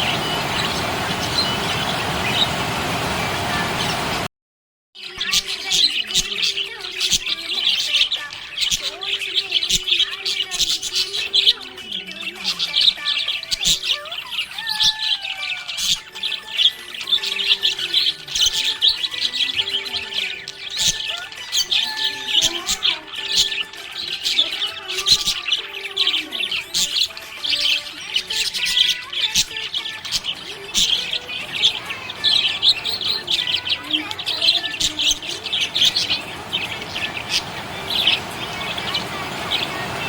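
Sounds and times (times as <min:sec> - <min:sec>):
budgerigars chirping: 0:00.0 - 0:04.2, 0:05.1 - 0:40.0.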